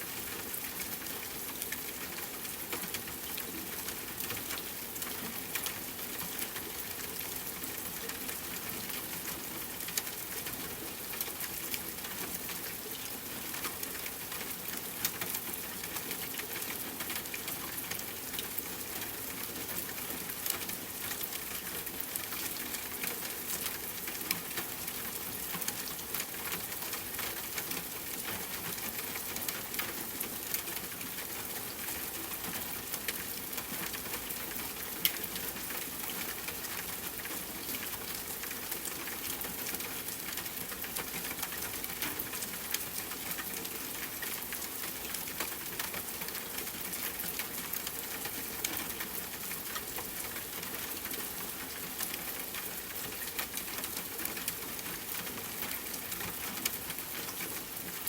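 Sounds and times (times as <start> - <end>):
rain falling on a tent: 0.0 - 58.0.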